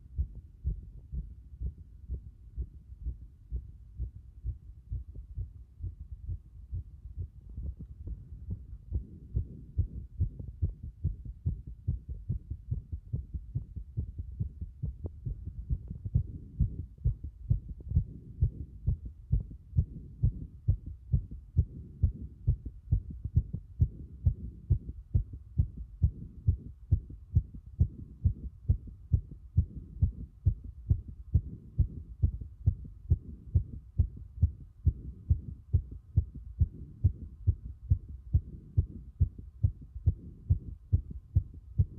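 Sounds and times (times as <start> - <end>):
fast heartbeat thumps: 0.0 - 41.9.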